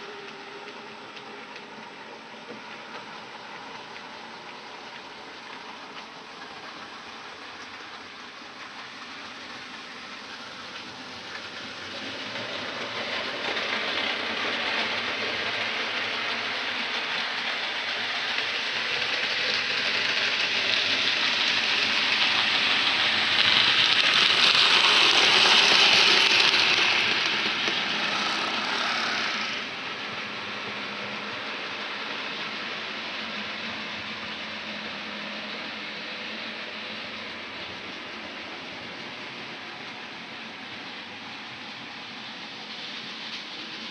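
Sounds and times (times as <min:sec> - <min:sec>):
model train wheels rolling on rail: 0:00.0 - 0:43.9.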